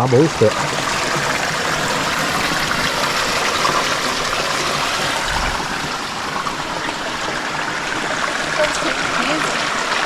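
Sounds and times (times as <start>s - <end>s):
water flowing and trickling: 0.0s - 10.0s.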